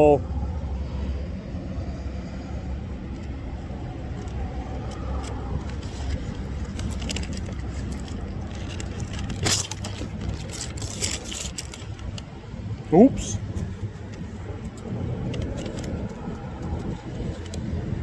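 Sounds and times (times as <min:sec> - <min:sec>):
steady low rumble: 0:00.0 - 0:18.0
crackling and rustling: 0:03.1 - 0:18.0.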